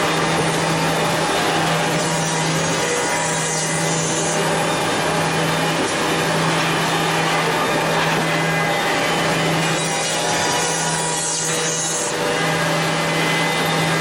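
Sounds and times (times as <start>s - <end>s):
machine motors humming: 0.0s - 14.0s
machine whirring: 0.0s - 14.0s.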